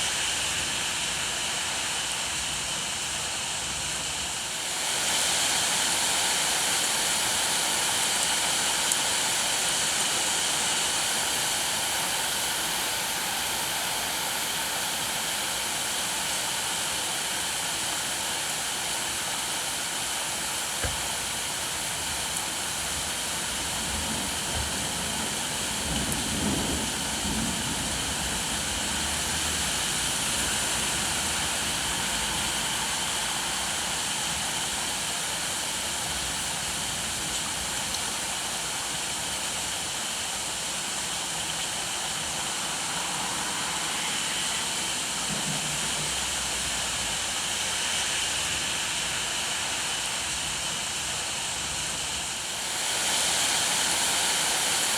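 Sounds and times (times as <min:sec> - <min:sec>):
steady rainfall: 0:00.0 - 0:54.9.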